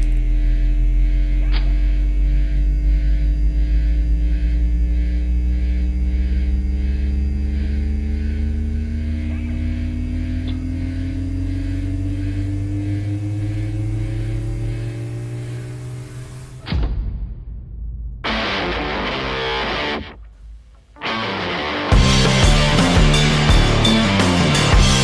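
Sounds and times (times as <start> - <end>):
droning instrumental rock: 3.0 - 17.1, 18.2 - 25.0.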